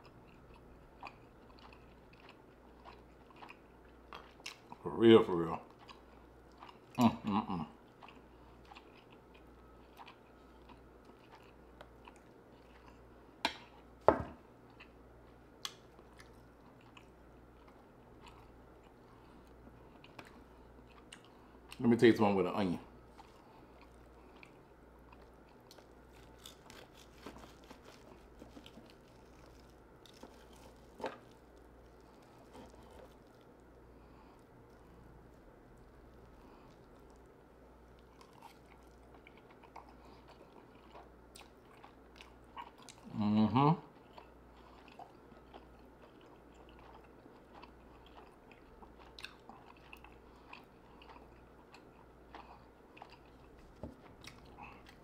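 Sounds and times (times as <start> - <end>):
chewing with soft crunches: 0.0 - 43.2, 43.8 - 55.0.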